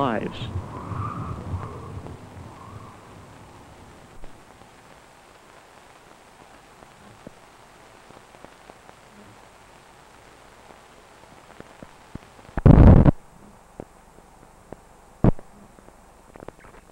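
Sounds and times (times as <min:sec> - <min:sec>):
film soundtrack hiss: 0:00.0 - 0:16.9
small clicks and pops: 0:01.5 - 0:16.9.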